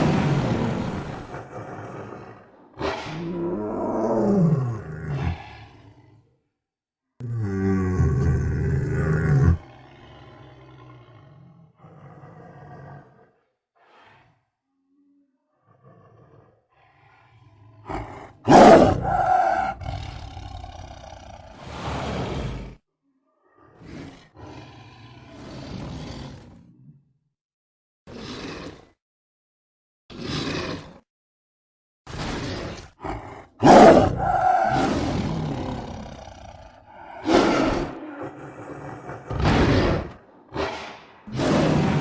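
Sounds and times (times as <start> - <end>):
big cat growling and roaring: 0.0 - 6.4, 7.2 - 14.4, 15.0 - 27.1, 28.1 - 29.0, 30.1 - 31.0, 32.1 - 42.0.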